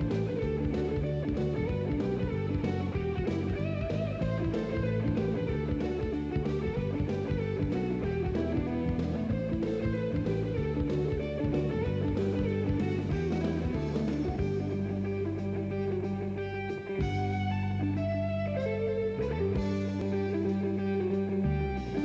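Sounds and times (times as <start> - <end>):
background guitar music: 0.0 - 22.0.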